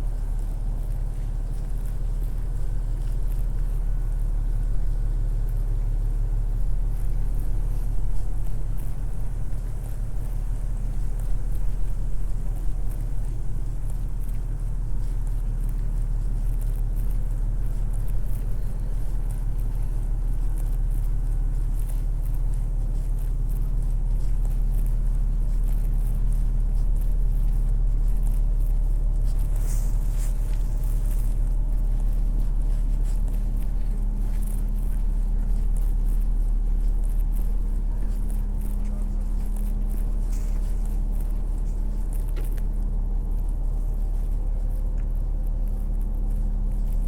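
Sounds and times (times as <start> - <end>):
low engine hum: 0.0 - 47.0
road traffic rumble: 0.0 - 47.0.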